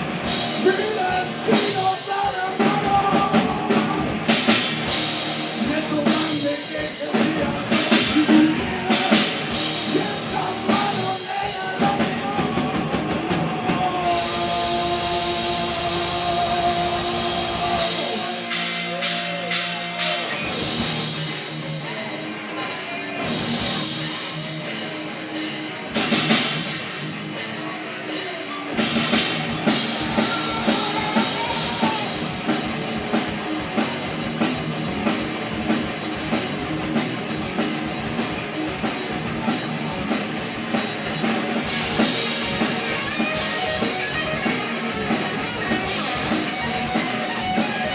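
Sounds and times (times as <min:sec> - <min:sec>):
bass: 0:00.0 - 0:47.9
drum kit beat: 0:00.0 - 0:47.9
electric guitar: 0:00.0 - 0:47.9.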